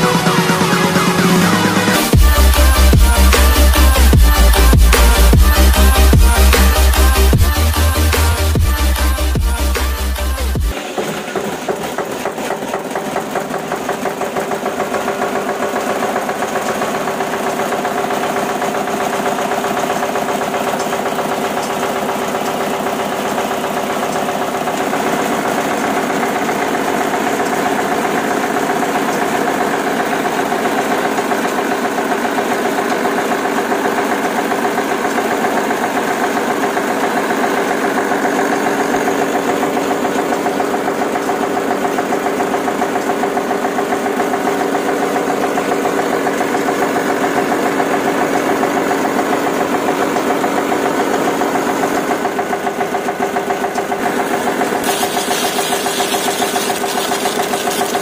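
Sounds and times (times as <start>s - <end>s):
model engine running with chugging pulse: 0.0s - 58.0s.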